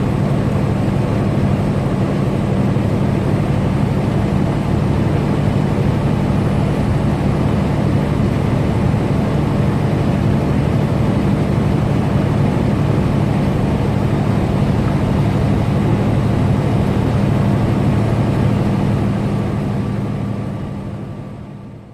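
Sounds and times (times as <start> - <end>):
road noise: 0.0 - 21.9
truck engine drone: 0.0 - 21.9.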